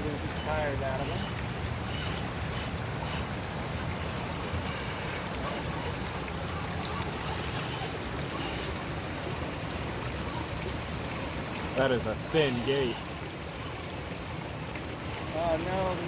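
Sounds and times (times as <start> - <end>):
electric motor high whine: 1.1 - 15.7.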